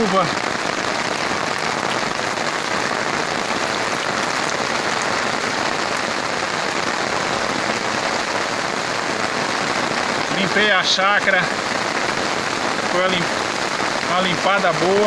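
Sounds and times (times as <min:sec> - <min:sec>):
steady rain on earth and leaves: 0:00.0 - 0:15.0.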